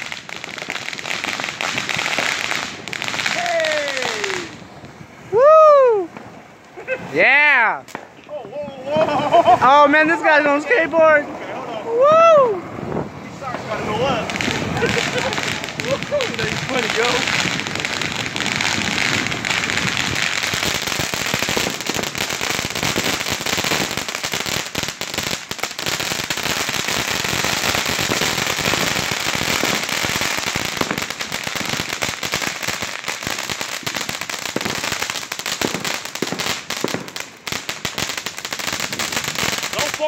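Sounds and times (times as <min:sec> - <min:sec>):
fireworks hissing and crackling: 0:00.0 - 0:40.0.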